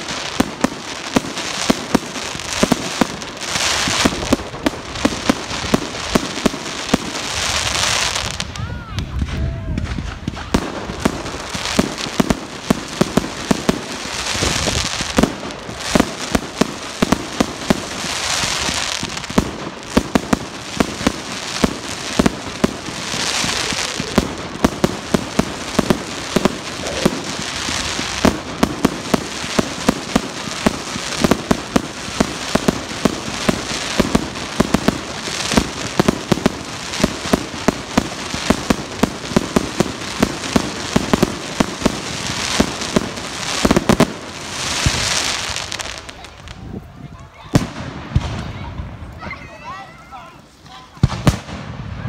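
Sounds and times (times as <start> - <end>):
fireworks bangs and cracks: 0.0 - 52.0
fireworks hissing rushes: 0.0 - 52.0.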